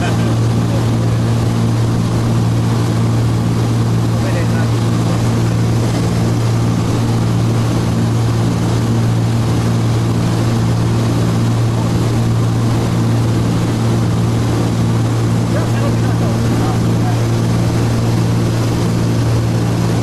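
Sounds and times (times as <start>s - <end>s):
aircraft cabin engine drone: 0.0s - 20.0s.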